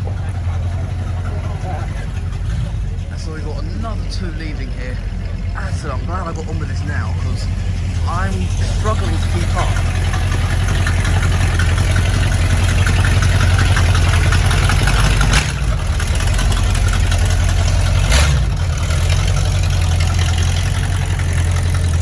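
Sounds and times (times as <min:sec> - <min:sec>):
car engines idling: 0:00.0 - 0:22.0.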